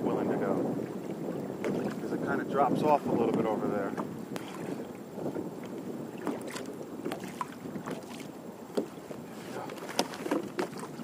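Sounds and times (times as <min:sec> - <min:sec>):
water lapping against kayak hull: 0:00.0 - 0:11.0.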